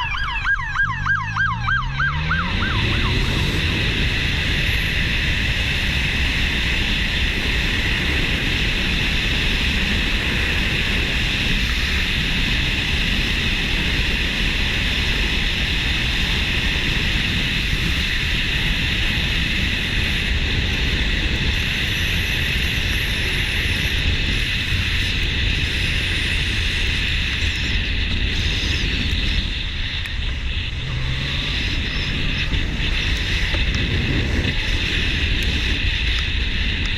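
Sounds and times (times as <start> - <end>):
low rumble of motorcycle: 0.0 - 36.9
wind rushing over microphone: 0.0 - 36.9.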